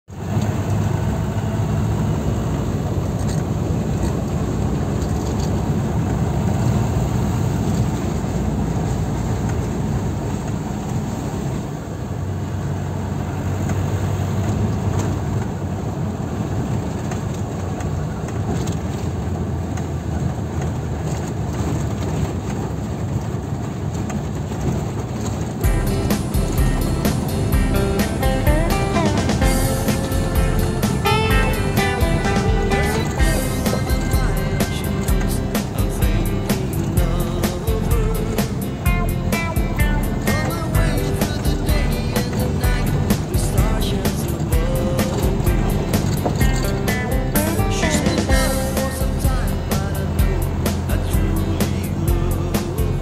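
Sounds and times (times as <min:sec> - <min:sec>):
car driving on gravel road: 0:00.1 - 0:53.0.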